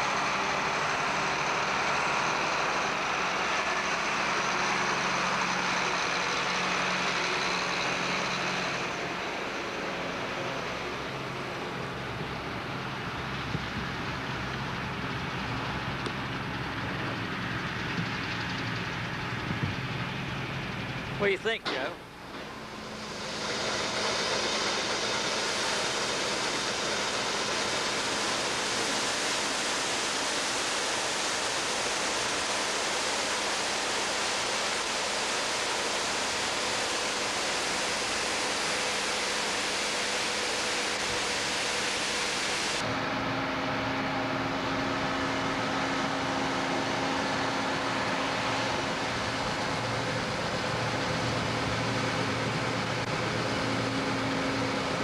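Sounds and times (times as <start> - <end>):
harvest machinery rushing noise: 0.0 - 55.0
low engine hum: 0.0 - 55.0.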